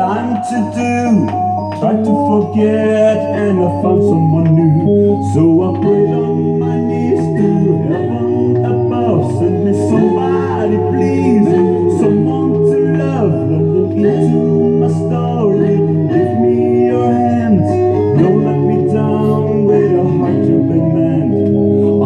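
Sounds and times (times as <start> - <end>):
pop song from jukebox: 0.0 - 22.0.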